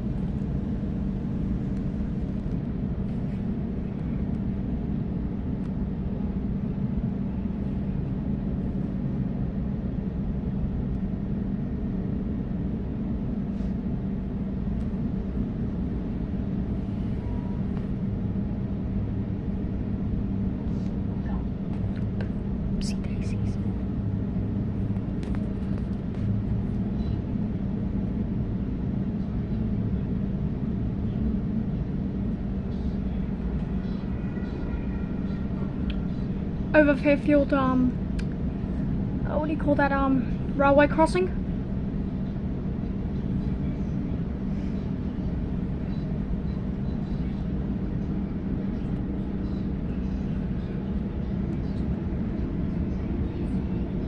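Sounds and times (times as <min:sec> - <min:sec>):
train carriage rumble and hum: 0:00.0 - 0:54.0.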